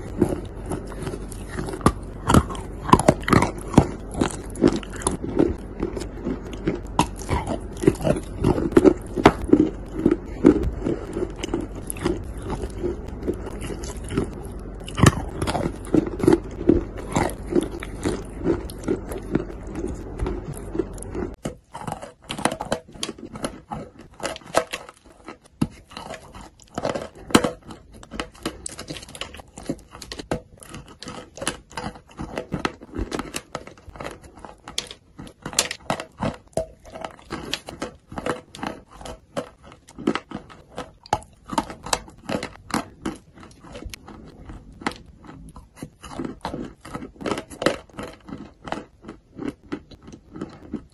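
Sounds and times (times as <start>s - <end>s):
chewing clay: 0.0s - 50.9s
low steady hum: 0.0s - 50.9s.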